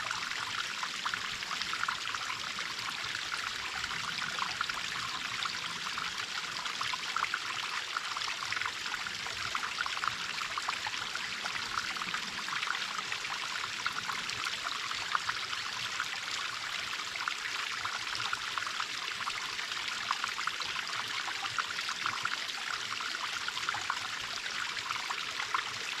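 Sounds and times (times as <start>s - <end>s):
small waterfall splashing: 0.0s - 26.0s.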